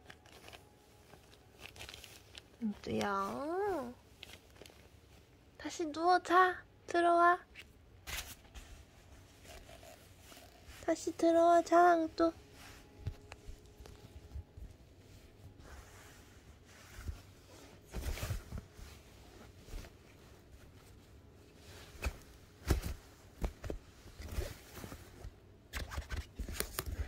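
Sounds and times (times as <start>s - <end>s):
fabric tunnel rustling: 0.1s - 5.3s, 8.1s - 25.5s.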